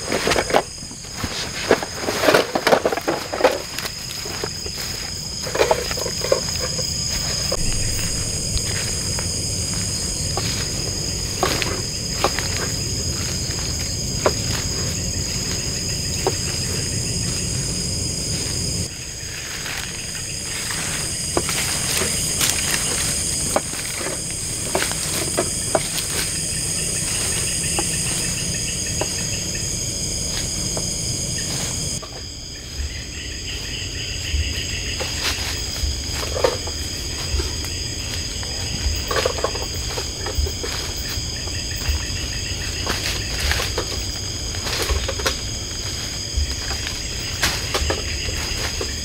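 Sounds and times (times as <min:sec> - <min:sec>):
footsteps through undergrowth: 0:00.0 - 0:49.0
insect chorus chirring: 0:00.0 - 0:49.0.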